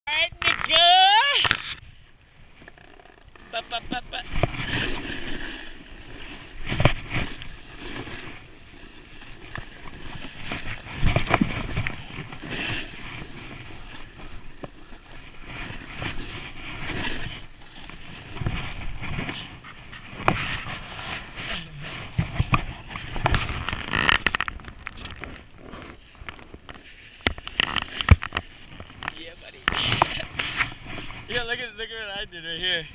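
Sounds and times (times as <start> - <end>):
snowboard carving through snow: 3.5 - 24.3, 25.2 - 32.1.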